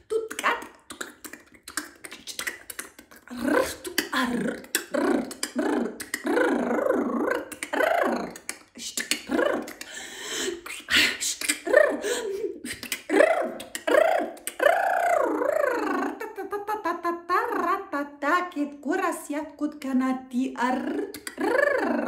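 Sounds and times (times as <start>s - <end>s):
woman making mouth clicks: 0.0s - 16.7s, 20.8s - 22.0s
woman chanting nonsense syllables: 0.0s - 22.0s.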